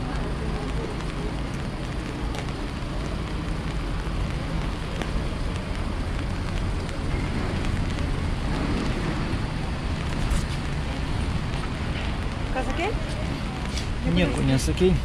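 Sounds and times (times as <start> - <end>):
rain hiss: 0.0 - 15.0
sharp rain taps: 0.0 - 15.0
wind rumble on microphone: 0.0 - 15.0.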